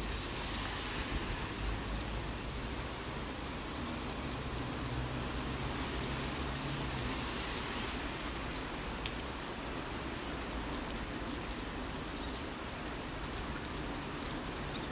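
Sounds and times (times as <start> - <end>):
rain falling on asphalt: 0.0 - 14.9.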